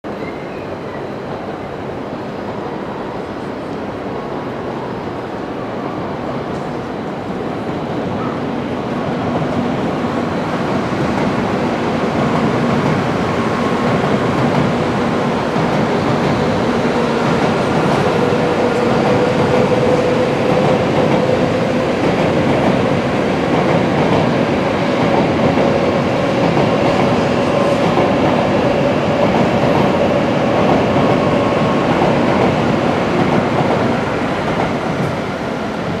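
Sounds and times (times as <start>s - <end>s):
faint train whine: 0.1s - 36.0s
train wheels rumbling on rail: 0.1s - 36.0s.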